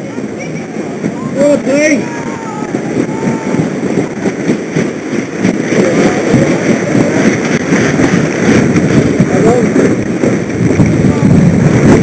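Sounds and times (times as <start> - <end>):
water washing along hull: 0.0 - 12.0
wind buffeting microphone: 0.0 - 12.0.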